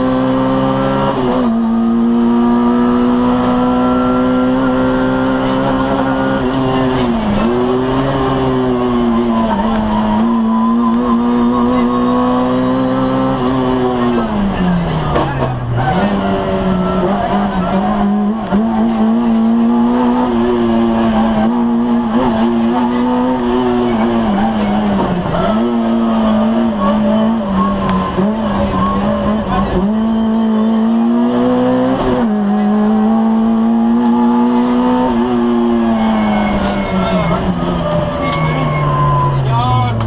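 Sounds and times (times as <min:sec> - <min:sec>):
rally car engine at high revs: 0:00.0 - 0:40.0.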